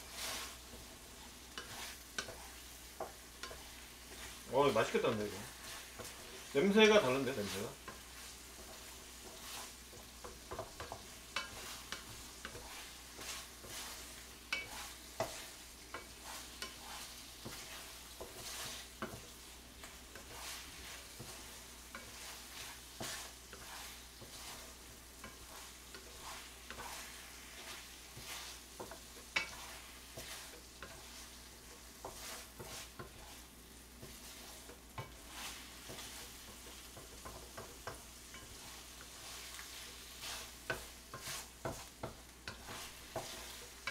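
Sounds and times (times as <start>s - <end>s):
rice cakes sizzling in a pan: 0.0s - 43.9s
spatula scraping and tapping pan: 0.0s - 43.9s.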